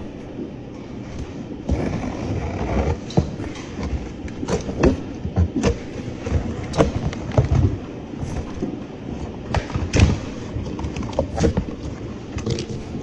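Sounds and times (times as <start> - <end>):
cardboard flaps scraping: 0.8 - 13.0.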